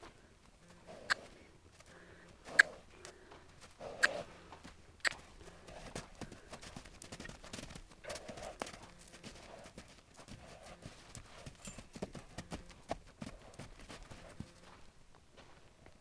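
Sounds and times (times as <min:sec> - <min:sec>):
horse hooves on sand: 0:00.0 - 0:16.0.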